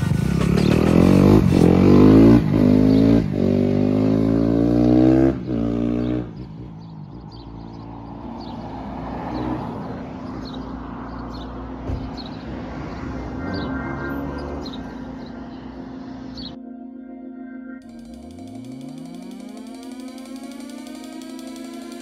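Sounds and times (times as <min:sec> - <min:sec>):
car engine accelerating: 0:00.0 - 0:16.5, 0:17.8 - 0:22.0.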